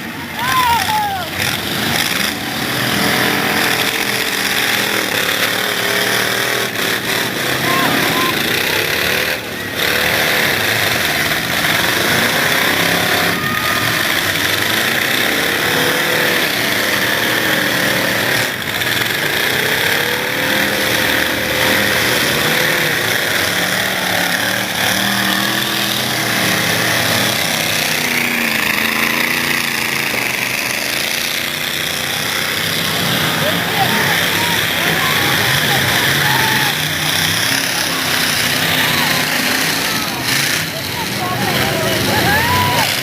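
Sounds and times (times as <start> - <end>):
truck engines revving: 0.0 - 43.0.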